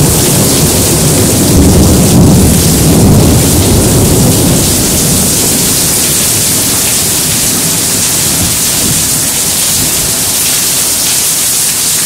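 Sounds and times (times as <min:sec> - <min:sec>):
low rumble of thunder: 0:00.0 - 0:10.9
heavy rain pouring: 0:00.0 - 0:12.0.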